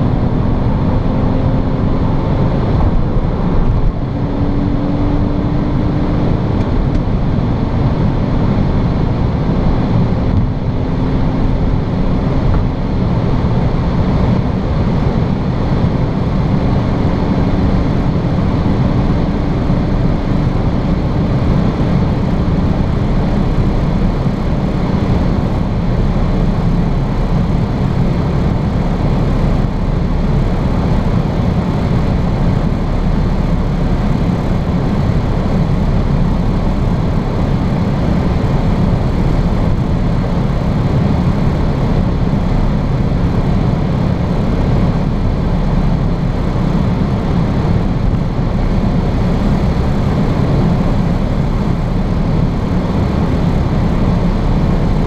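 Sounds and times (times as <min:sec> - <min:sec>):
car engine drone: 0:00.0 - 0:55.0
road and wind noise: 0:00.0 - 0:55.0.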